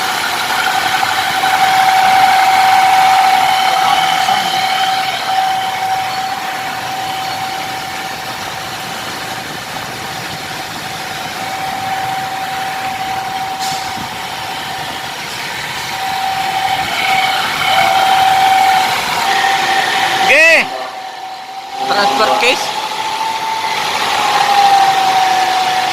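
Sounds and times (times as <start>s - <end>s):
drivetrain whining hum: 0.0s - 25.9s.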